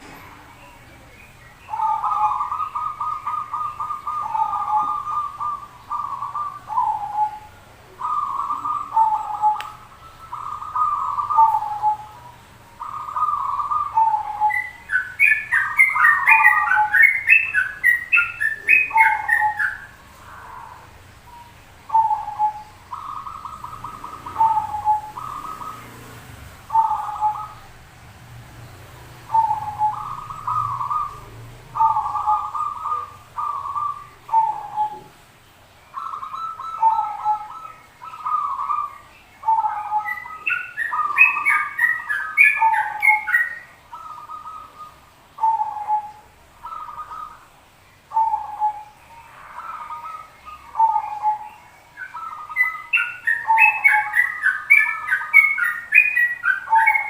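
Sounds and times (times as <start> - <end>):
high chirping notes: 0.0 - 28.2, 29.0 - 57.0
doves cooing: 0.0 - 57.0.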